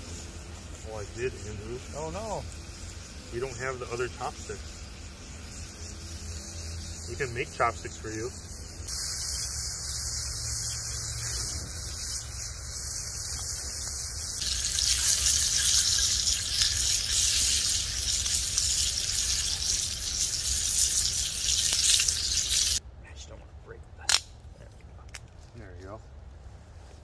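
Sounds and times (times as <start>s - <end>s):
bacon sizzling in a skillet: 0.0s - 22.8s.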